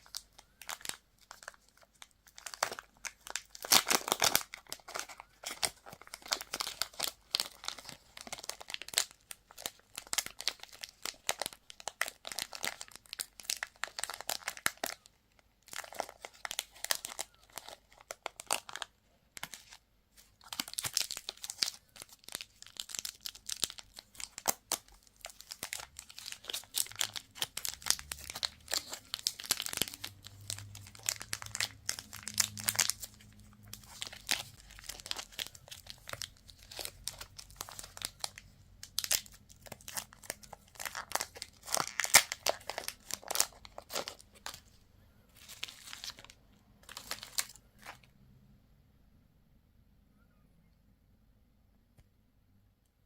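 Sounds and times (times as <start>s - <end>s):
wrappers crinkling and tearing: 0.0s - 44.7s, 45.4s - 48.1s.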